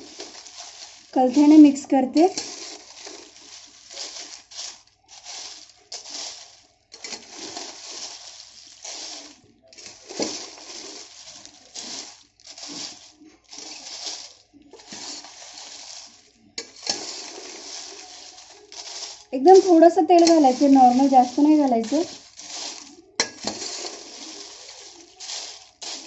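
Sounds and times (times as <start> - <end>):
dried chillies rustling: 0.0 - 26.0
metal spatula scraping pan: 0.0 - 26.0.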